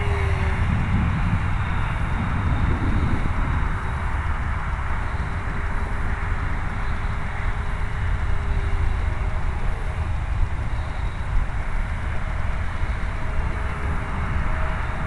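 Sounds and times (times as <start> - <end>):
distant model plane motor whine: 0.0 - 15.0
wind buffeting the microphone: 0.0 - 15.0.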